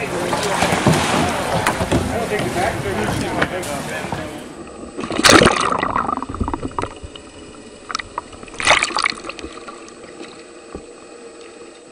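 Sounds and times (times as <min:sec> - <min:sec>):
water splashing around kayak: 0:00.0 - 0:11.9.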